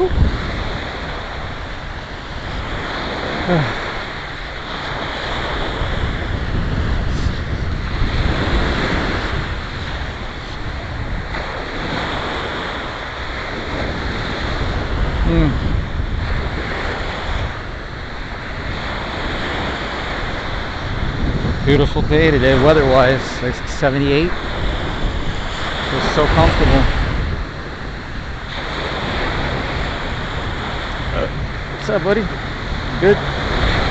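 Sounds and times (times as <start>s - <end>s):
ocean surf breaking: 0.0s - 33.9s
wind buffeting microphone: 0.0s - 33.9s.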